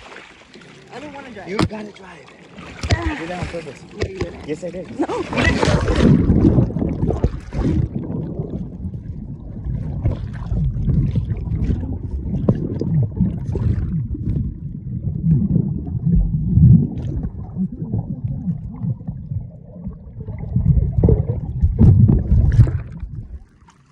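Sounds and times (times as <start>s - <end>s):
underwater churning and bubbling: 0.0s - 23.9s
water splashing at surface: 0.0s - 23.9s.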